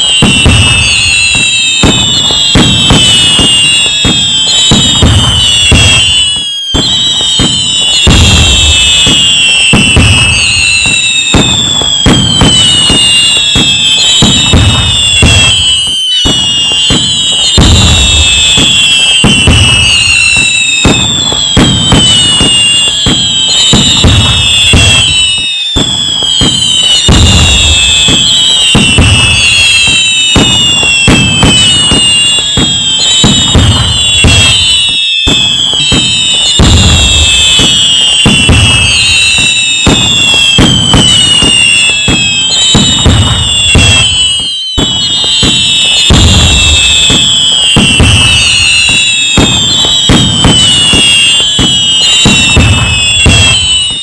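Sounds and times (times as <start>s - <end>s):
fireworks booming: 0.0s - 54.0s
fireworks crackling: 0.0s - 54.0s
fireworks whistling: 0.0s - 54.0s.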